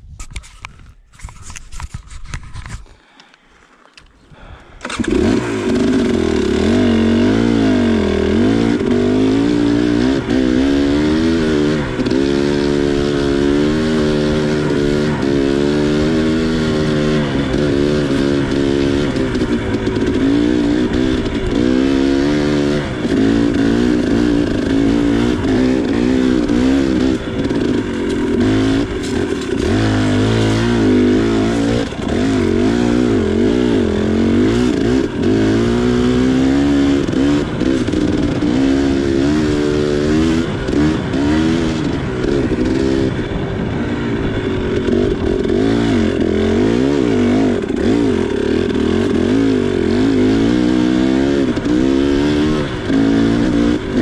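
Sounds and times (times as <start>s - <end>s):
dirt bike engine revving: 4.4s - 54.0s.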